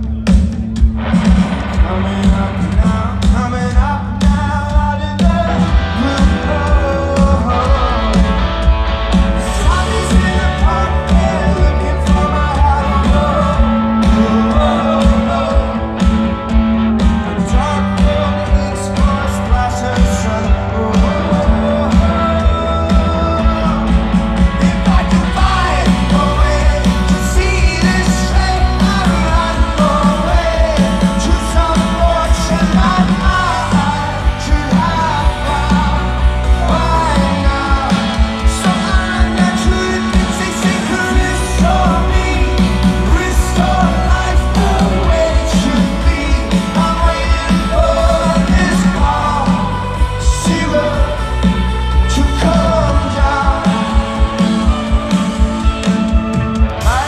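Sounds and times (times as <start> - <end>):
rock band playing live: 0.0 - 57.0
male lead vocal singing: 1.3 - 57.0.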